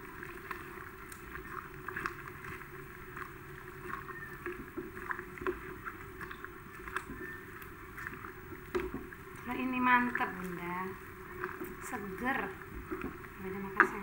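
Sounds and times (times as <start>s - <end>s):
broth sloshing in pot: 0.0s - 14.0s.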